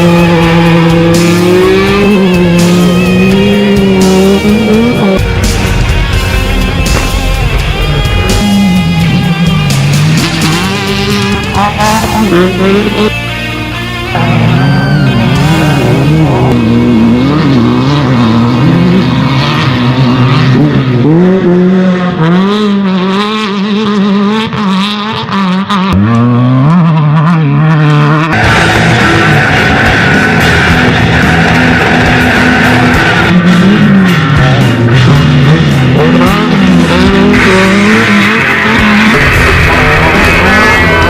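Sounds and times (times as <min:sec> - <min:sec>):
off-road vehicle engines revving: 0:00.0 - 0:41.0.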